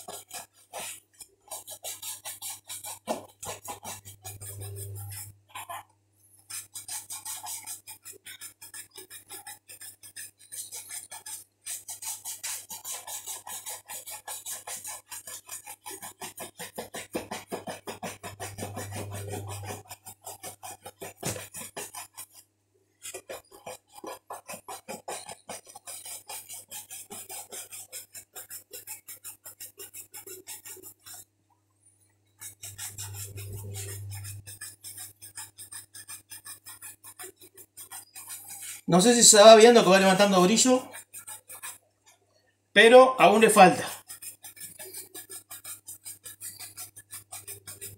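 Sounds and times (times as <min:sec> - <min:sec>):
shoe brush on leather: 0:00.0 - 0:05.8, 0:06.4 - 0:22.4, 0:23.0 - 0:31.3, 0:32.4 - 0:41.8, 0:42.8 - 0:47.9.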